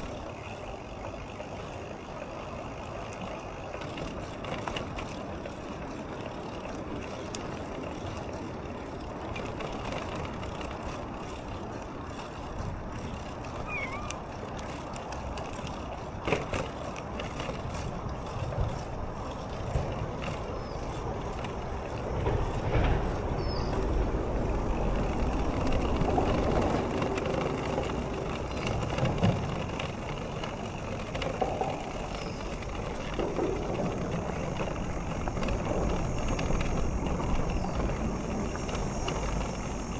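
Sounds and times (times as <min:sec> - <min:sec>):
bicycle road and wind noise: 0:00.0 - 0:39.9.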